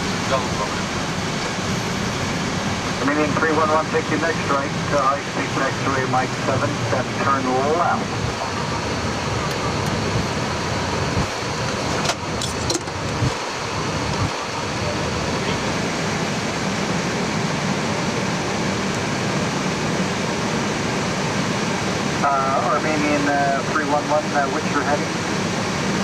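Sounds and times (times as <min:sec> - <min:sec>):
rushing cabin noise: 0:00.0 - 0:23.2.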